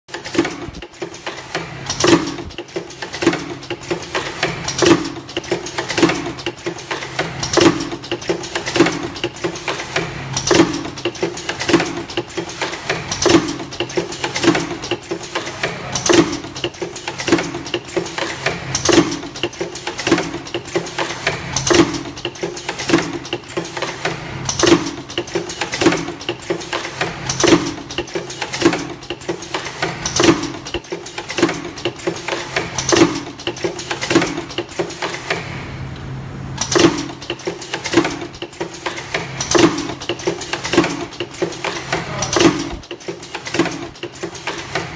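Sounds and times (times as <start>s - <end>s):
light machine clicks: 0.1s - 35.6s, 36.6s - 44.9s.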